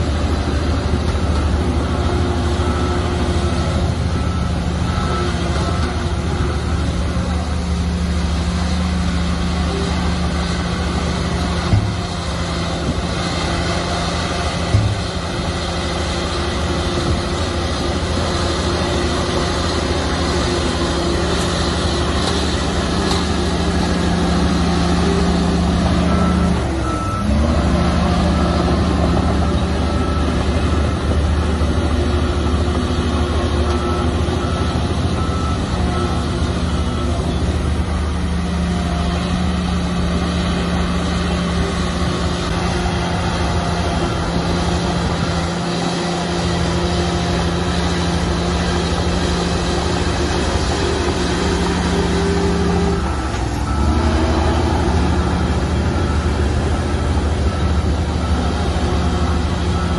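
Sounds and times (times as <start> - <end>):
heavy diesel engine running: 0.0 - 59.9
reversing alarm beeping: 0.0 - 59.9.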